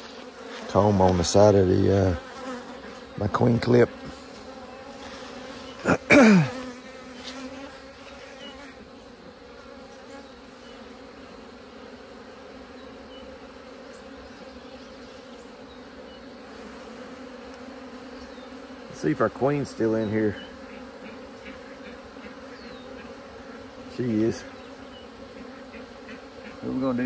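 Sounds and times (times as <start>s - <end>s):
bees humming: 0.0s - 27.0s.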